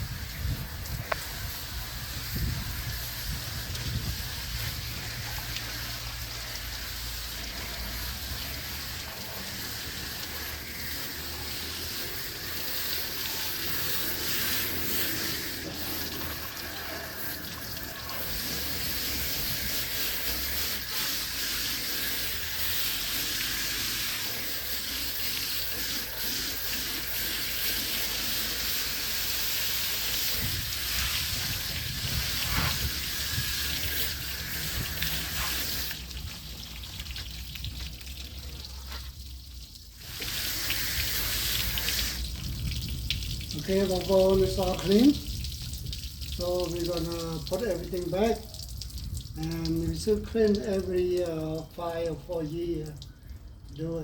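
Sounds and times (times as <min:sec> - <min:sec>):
water spray hissing: 0:00.0 - 0:51.6.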